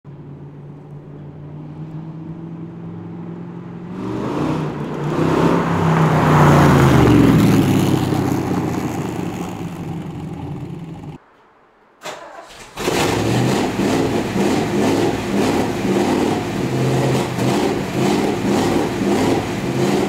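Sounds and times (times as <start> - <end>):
car engine exhaust passing by: 0.2 - 11.2, 12.3 - 20.0.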